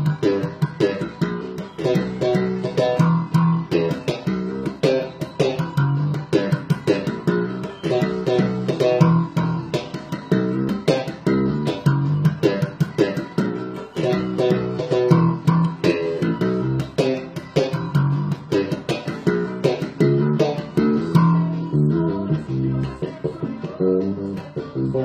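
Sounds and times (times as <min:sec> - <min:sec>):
electric bass guitar plucking: 0:00.0 - 0:25.0.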